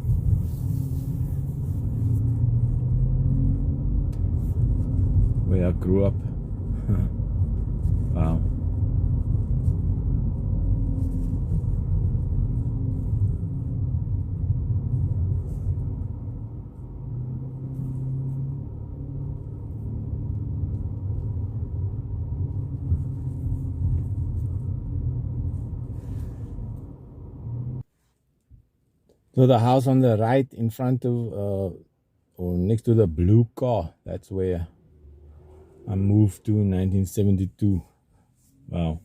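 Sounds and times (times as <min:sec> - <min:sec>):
car engine and tyre noise: 0:00.0 - 0:30.9, 0:32.8 - 0:39.0.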